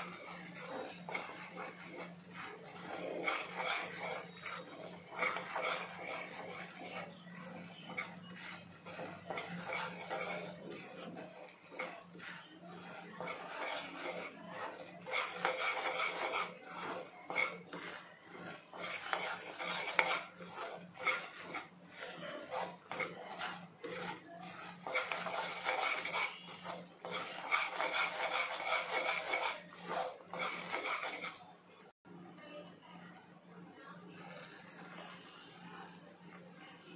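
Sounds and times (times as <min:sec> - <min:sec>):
metal spoon scraping a pan: 0:00.0 - 0:31.9.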